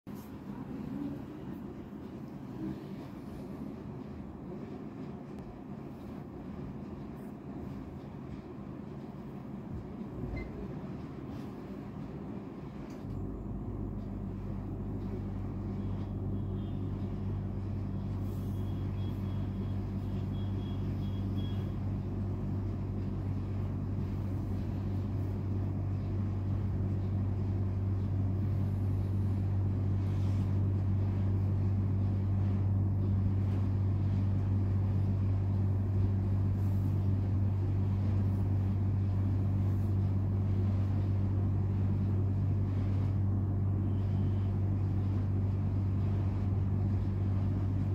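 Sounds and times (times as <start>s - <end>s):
low motor hum: 0.0s - 47.9s.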